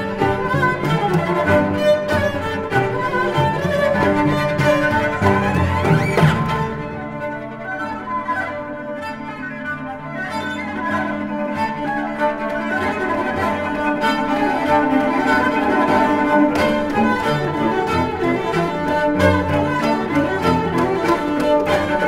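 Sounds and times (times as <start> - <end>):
bowed strings music: 0.0 - 22.0.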